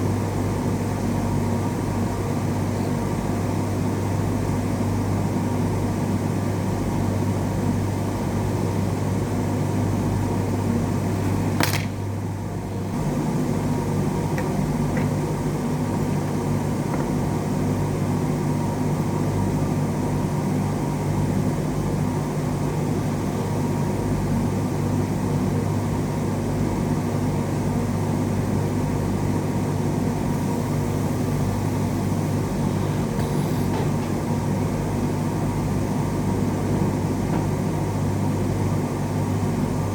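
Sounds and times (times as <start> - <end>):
fan whirring with low hum: 0.0 - 39.9.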